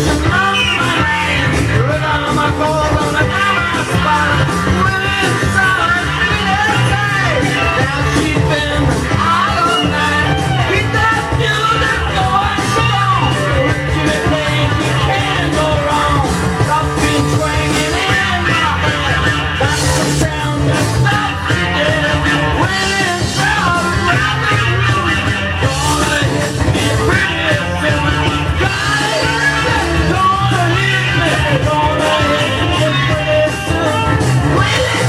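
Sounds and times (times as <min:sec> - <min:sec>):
man singing and yelling: 0:00.0 - 0:35.0
rock band playing: 0:00.0 - 0:35.0.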